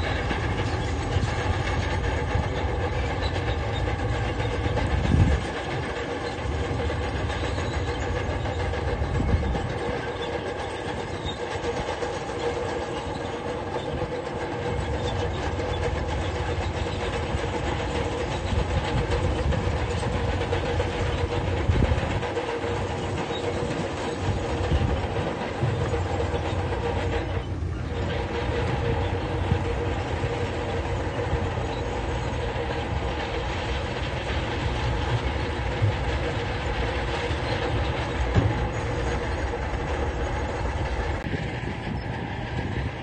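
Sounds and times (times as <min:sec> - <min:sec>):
diesel engine running: 0:00.0 - 0:43.0
steel tracks clanking: 0:00.0 - 0:43.0.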